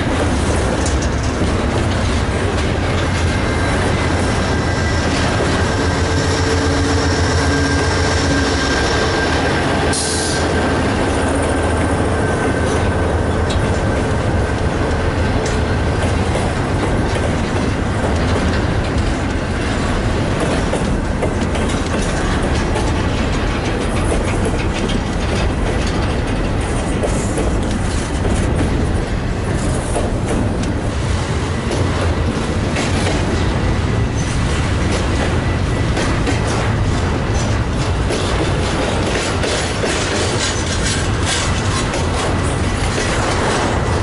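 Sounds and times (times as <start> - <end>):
steel wheels clacking on rails: 0.0 - 44.0.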